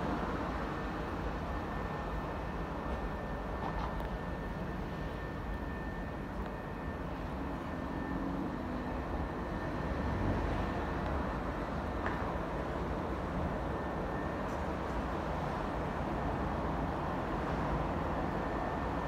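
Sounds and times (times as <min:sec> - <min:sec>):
distant city traffic rumble: 0:00.0 - 0:19.0
faint steady whine: 0:00.0 - 0:19.0.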